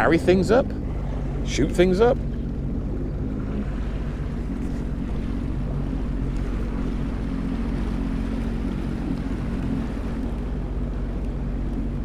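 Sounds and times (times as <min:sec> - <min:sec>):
watercraft engine running: 0:00.0 - 0:12.0.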